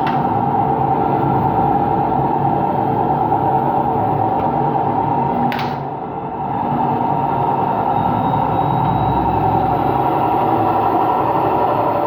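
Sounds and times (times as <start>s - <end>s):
washing machine rumbling drone: 0.0s - 12.0s.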